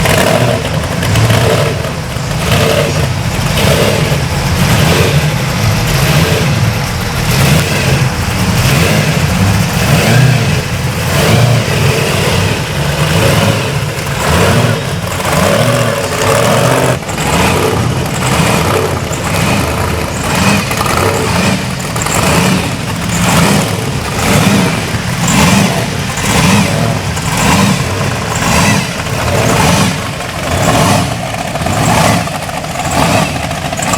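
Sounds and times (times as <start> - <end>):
vehicle engine revving: 0.0 - 33.9.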